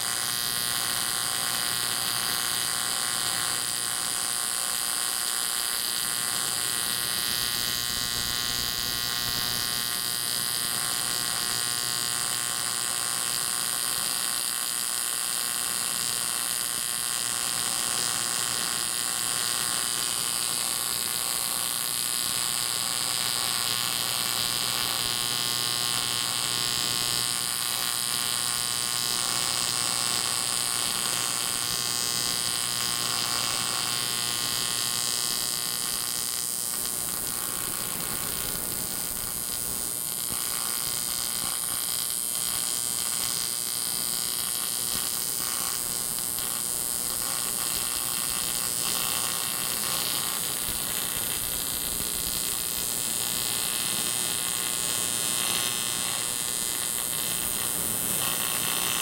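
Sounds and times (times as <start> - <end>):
welding arc buzzing: 0.0 - 59.0.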